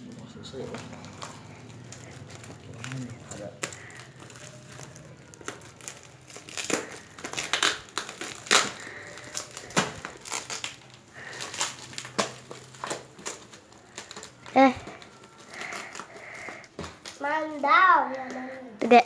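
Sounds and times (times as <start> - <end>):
packaging crinkling and tearing: 0.0 - 18.6.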